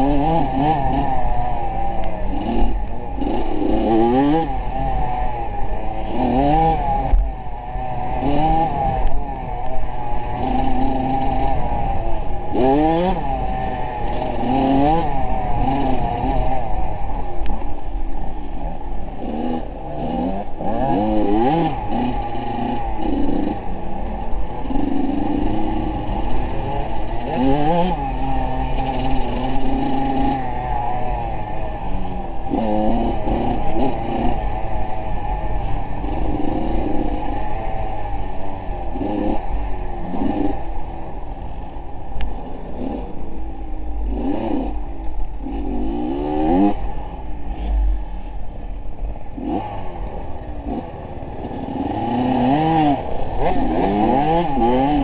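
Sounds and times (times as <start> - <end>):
vehicle engine revving: 0.0 - 55.0.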